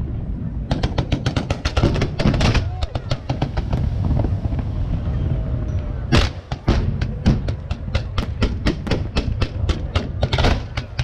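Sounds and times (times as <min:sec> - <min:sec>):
fireworks rumble: 0:00.0 - 0:11.0
fireworks sharp bangs: 0:00.7 - 0:05.0, 0:06.1 - 0:11.0.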